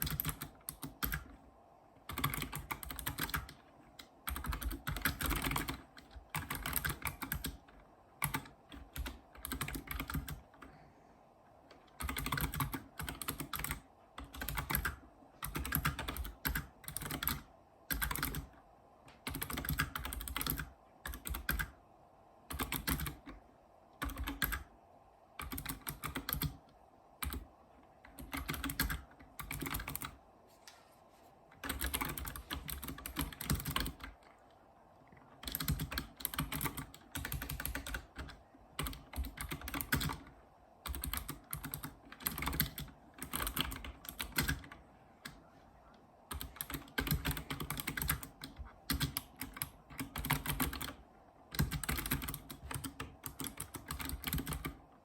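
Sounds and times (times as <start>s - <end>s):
keyboard typing clicks: 0.0s - 1.4s, 2.0s - 10.7s, 11.7s - 21.8s, 22.5s - 23.4s, 24.0s - 24.7s, 25.4s - 30.2s, 31.5s - 34.5s, 35.4s - 45.4s, 46.3s - 54.8s.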